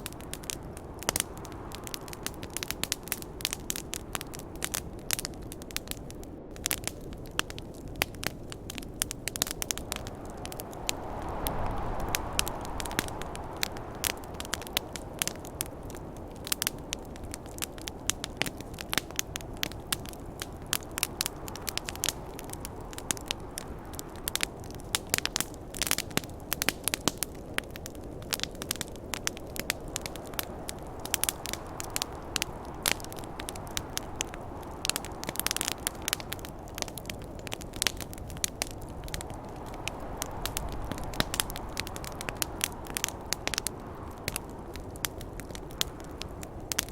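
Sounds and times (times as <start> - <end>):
campfire crackling and popping: 0.0 - 46.9
snowstorm wind rushing: 0.1 - 46.9.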